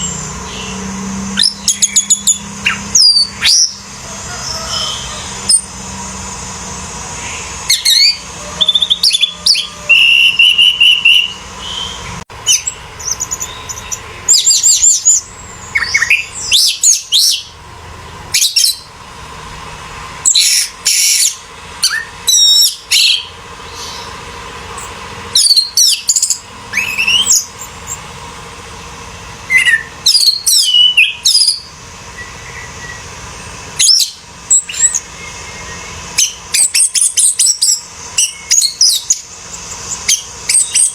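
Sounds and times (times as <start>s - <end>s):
thrush singing: 0.0s - 40.9s.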